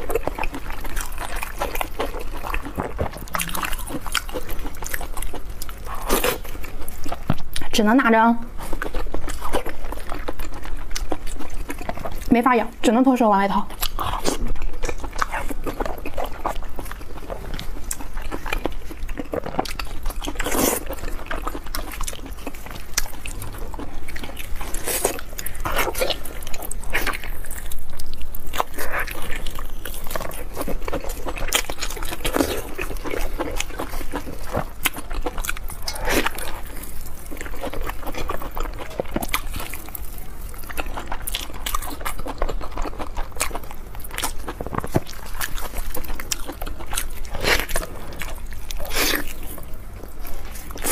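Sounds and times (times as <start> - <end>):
wet eating sounds: 0.0 - 50.9.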